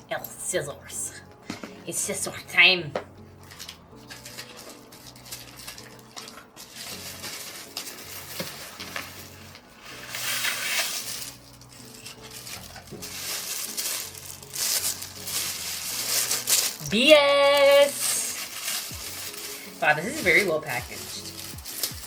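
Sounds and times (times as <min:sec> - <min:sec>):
packaging rustling: 0:03.4 - 0:22.0.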